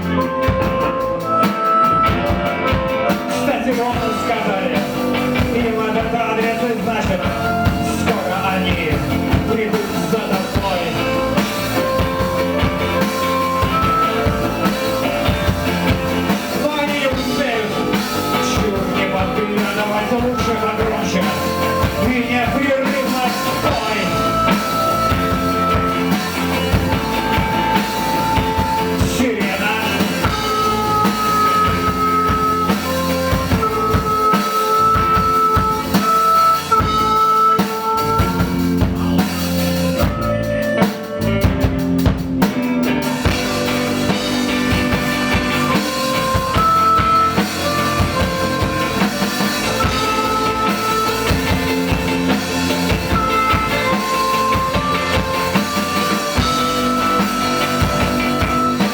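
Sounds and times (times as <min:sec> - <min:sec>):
drum kit: 0:00.0 - 0:58.9
guitars: 0:00.0 - 0:58.9
melody of long held notes: 0:00.0 - 0:58.9.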